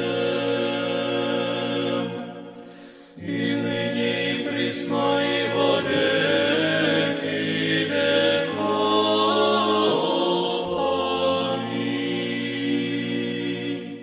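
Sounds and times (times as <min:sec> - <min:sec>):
a cappella choir chanting: 0:00.0 - 0:14.0.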